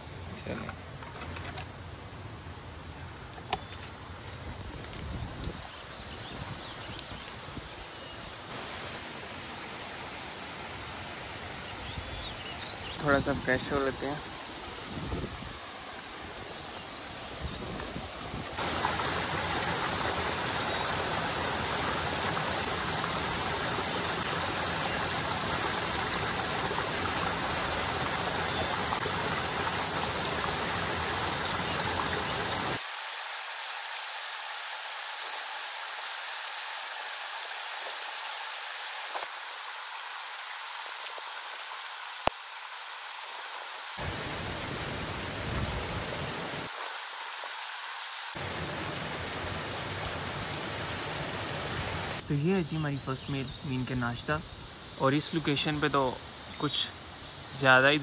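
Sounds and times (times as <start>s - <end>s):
stream rushing over rocks: 4.4s - 52.2s.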